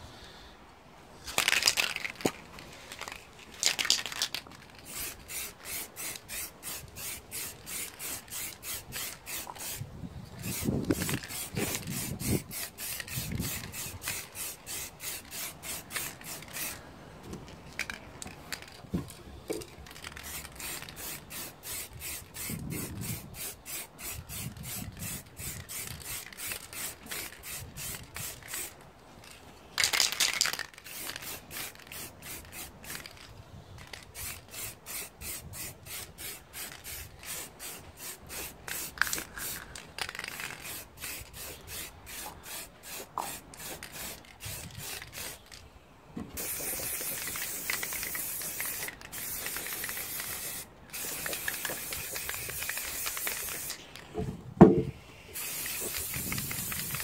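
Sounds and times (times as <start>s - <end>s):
spray paint can hissing: 2.9s - 9.8s, 10.4s - 16.8s, 19.8s - 28.8s, 29.8s - 33.2s, 33.8s - 45.6s, 46.4s - 54.0s, 55.3s - 57.0s.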